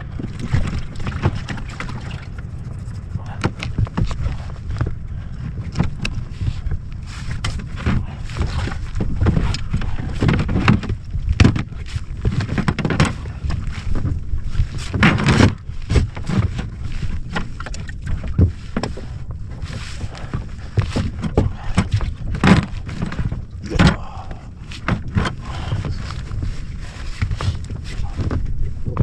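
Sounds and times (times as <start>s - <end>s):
low rumble: 0.0s - 12.5s, 13.1s - 29.0s
water splashing against hull: 0.0s - 29.0s
wind buffeting microphone: 0.0s - 29.0s.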